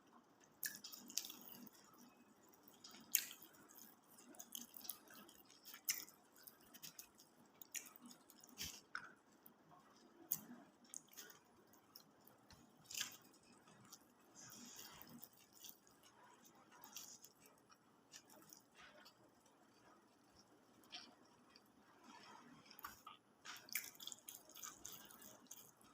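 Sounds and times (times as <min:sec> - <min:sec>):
wet chewing and mouth smacking: 0:00.0 - 0:25.9.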